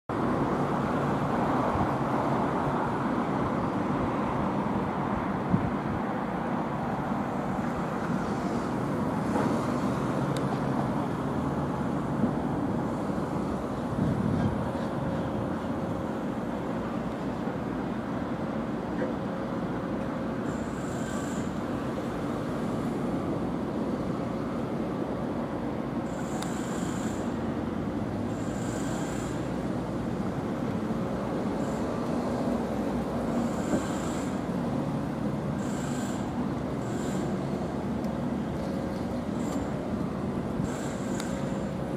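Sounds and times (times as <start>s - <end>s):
diesel engines running: 0.1s - 41.9s.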